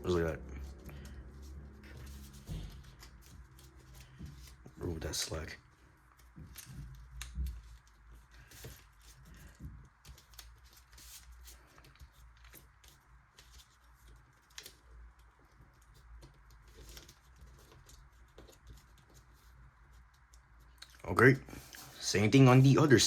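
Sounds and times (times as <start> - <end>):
steady low hum: 0.0 - 23.0
paper rustling and crinkling: 0.1 - 20.8.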